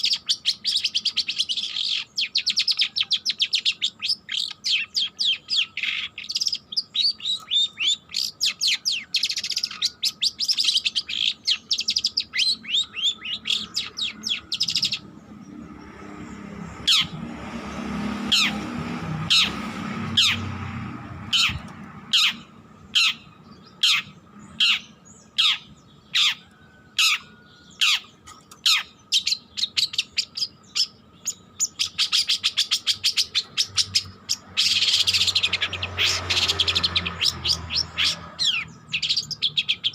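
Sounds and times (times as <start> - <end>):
bird singing and chattering: 0.0 - 39.9.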